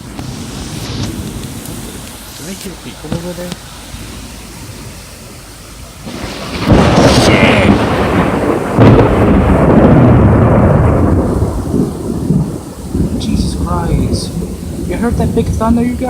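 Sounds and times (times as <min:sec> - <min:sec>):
thunder claps and rumble: 0:00.0 - 0:03.6, 0:05.6 - 0:16.0
heavy rain: 0:00.0 - 0:16.0.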